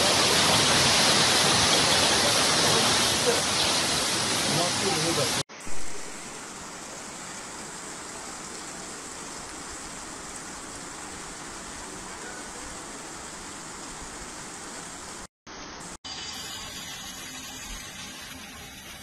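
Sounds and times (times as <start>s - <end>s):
rain hissing on street: 0.0s - 19.0s.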